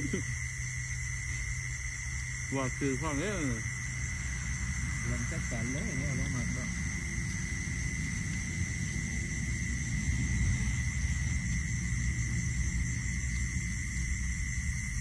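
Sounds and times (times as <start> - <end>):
night insects chorus: 0.0 - 15.0
wind rumbling on microphone: 0.0 - 15.0.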